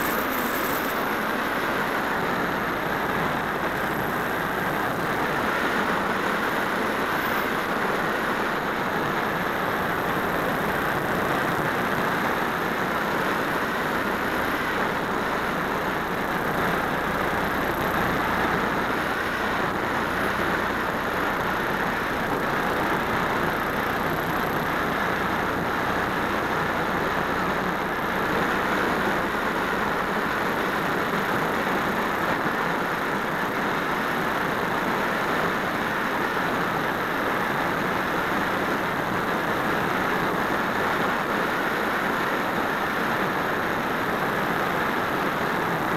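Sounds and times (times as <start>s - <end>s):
faint high steady whine: 0.0s - 45.9s.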